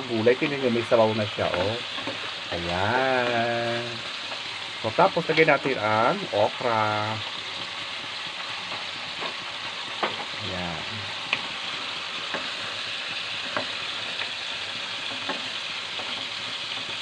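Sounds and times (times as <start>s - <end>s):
vegetables sizzling in a pot: 0.0s - 17.0s.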